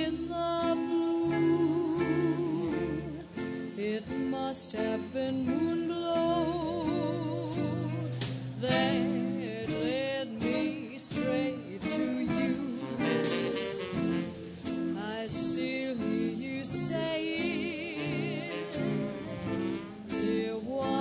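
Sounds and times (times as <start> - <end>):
guitar chords: 0.0 - 21.0
upright bass: 0.0 - 21.0.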